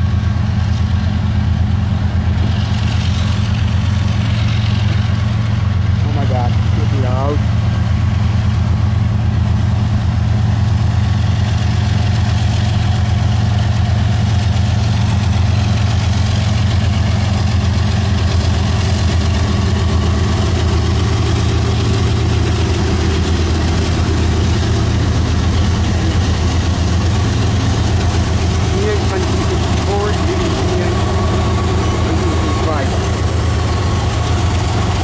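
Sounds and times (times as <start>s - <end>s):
diesel locomotive engine droning: 0.0s - 35.0s.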